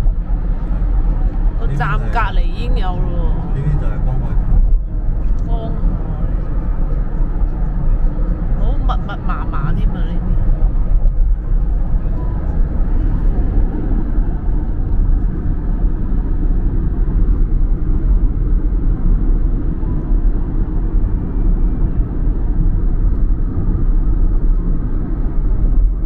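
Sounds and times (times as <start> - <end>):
train rumble inside carriage: 0.0 - 26.0.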